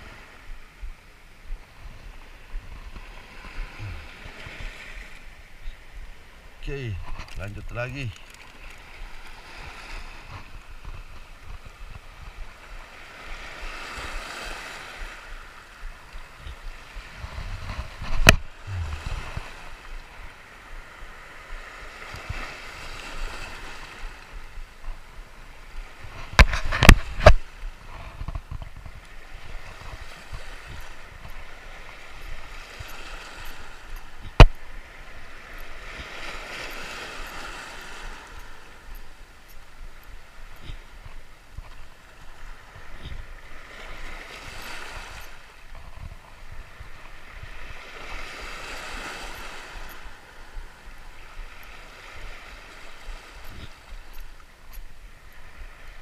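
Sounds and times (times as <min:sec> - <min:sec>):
small waves washing in shallow surf: 0:00.0 - 0:56.0.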